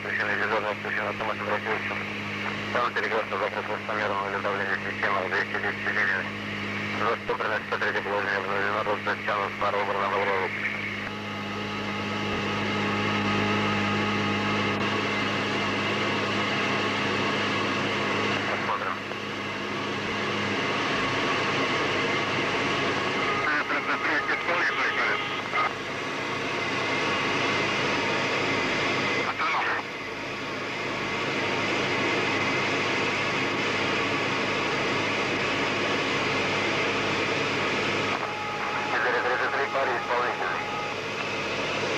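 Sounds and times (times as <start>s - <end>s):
aircraft cockpit drone: 0.0s - 41.9s
faint hum: 0.0s - 41.9s.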